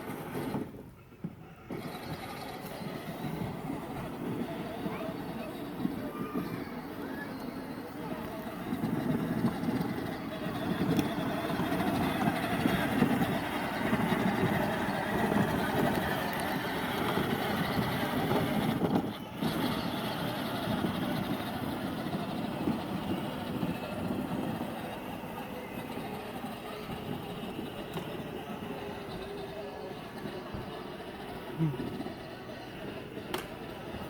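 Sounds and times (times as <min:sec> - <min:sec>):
pickup truck engine driving: 0:00.0 - 0:34.0.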